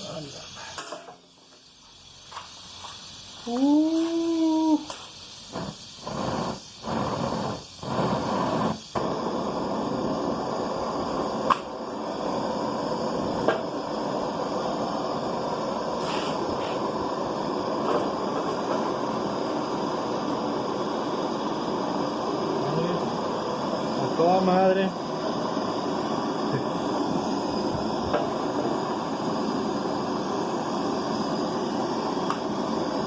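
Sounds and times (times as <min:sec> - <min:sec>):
gas torch flame hissing: 0:00.0 - 0:33.0.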